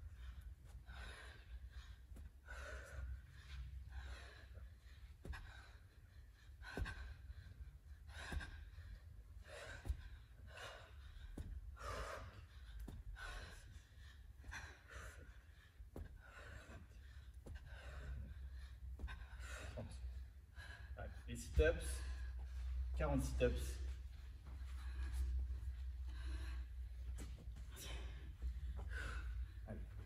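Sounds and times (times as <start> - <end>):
woman breathing hard: 0.0 - 30.0.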